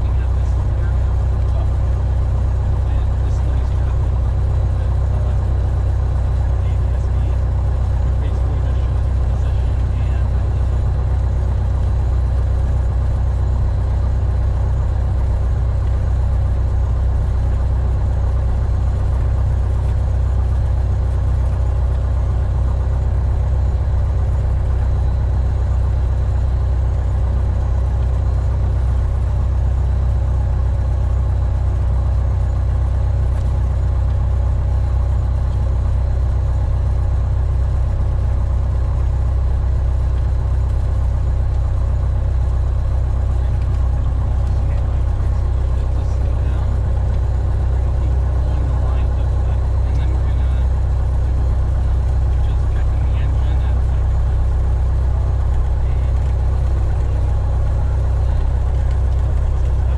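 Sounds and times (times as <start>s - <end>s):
plane engine and propeller droning: 0.0s - 59.9s.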